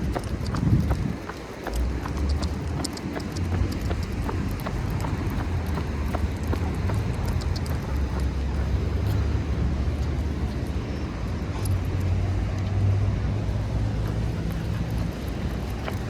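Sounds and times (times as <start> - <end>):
road traffic rumble: 0.0 - 16.0
vehicle passing: 0.0 - 16.0.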